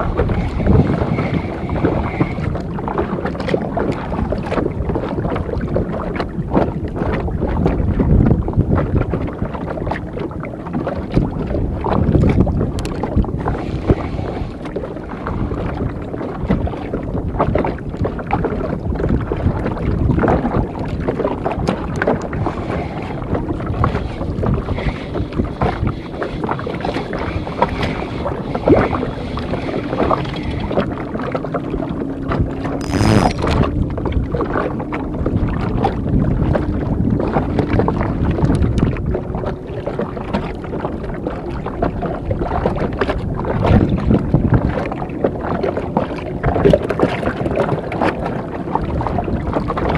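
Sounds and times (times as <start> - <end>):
water lapping against boat hull: 0.0 - 49.9
wind buffeting microphone: 0.0 - 49.9.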